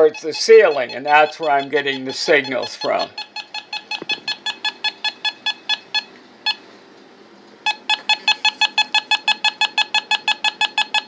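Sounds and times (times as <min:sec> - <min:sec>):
meter beeping rapidly: 0:00.0 - 0:06.6, 0:07.6 - 0:11.0.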